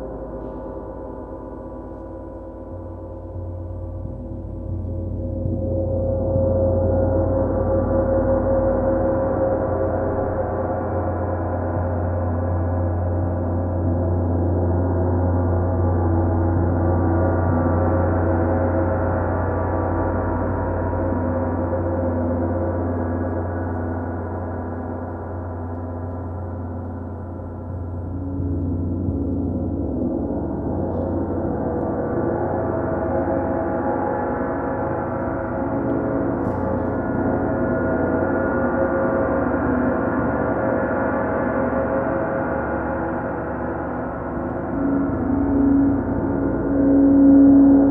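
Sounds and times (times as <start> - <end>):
deep hum: 0.0 - 47.9.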